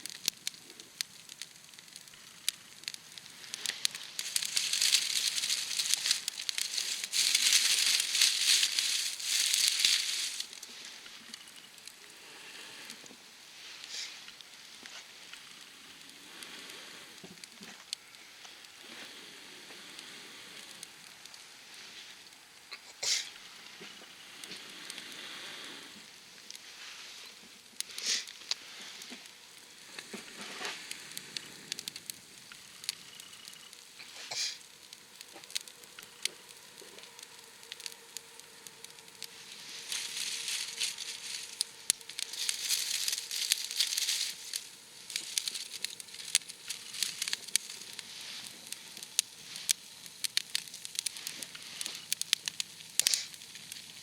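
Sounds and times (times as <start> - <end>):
campfire crackling and popping: 0.0 - 54.0
campfire hissing: 0.0 - 54.0.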